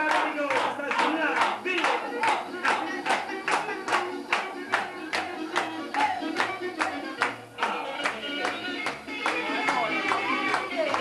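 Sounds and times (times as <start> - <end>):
dance music: 0.0 - 11.0
rhythmic hand clapping: 0.0 - 11.0.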